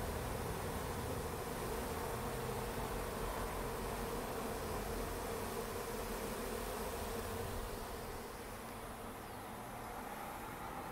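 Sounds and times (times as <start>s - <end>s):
honeybees buzzing: 0.0s - 10.9s.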